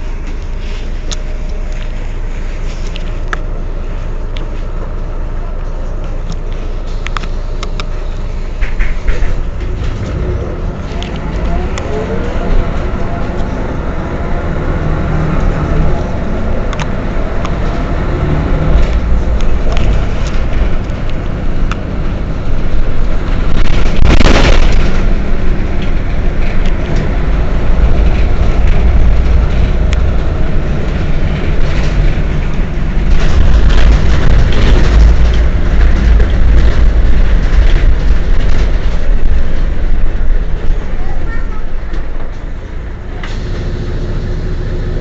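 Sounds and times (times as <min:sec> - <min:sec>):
bus engine rumbling: 0:00.0 - 0:45.0.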